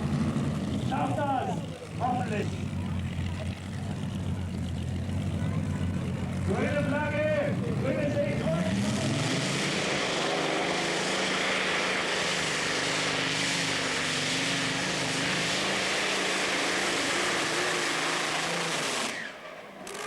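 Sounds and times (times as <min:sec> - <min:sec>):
tractor engine roaring: 0:00.0 - 0:20.0.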